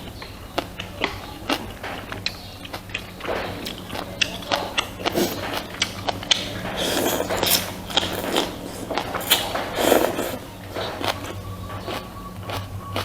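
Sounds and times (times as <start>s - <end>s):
mouth clicks and smacks eating: 0.0s - 13.0s.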